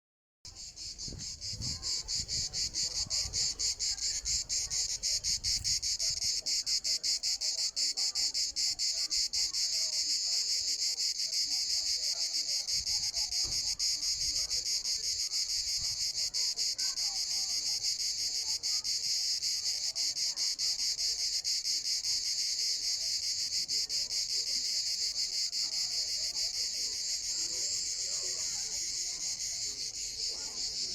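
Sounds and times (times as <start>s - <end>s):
cicada buzzing: 0.5s - 9.3s, 12.7s - 30.9s.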